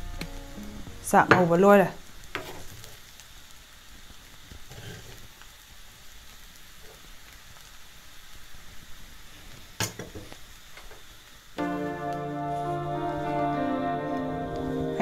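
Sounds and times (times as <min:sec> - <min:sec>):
rice sizzling in a pan: 0:00.0 - 0:15.0.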